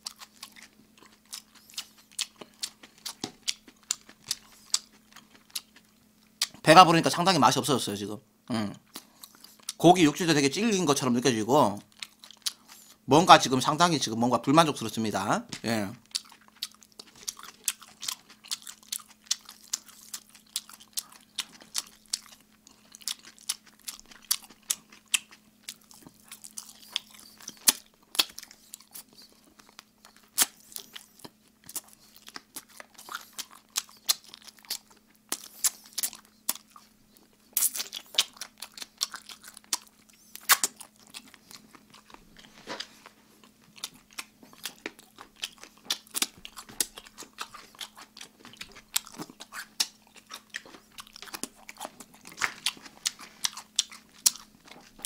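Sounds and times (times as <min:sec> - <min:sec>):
wet chewing: 0:00.0 - 0:06.6, 0:11.8 - 0:13.0, 0:16.0 - 0:55.0
crunching fried chicken: 0:00.0 - 0:07.6, 0:14.7 - 0:55.0
faint steady hum: 0:00.0 - 0:55.0.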